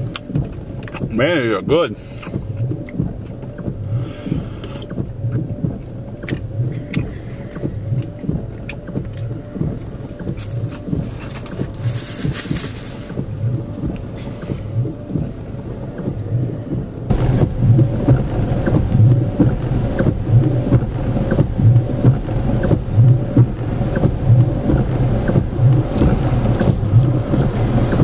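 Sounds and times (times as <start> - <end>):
rain on a car windscreen: 0.0 - 28.0
windscreen wiper sweeping: 0.0 - 28.0
low pulse: 2.4 - 28.0.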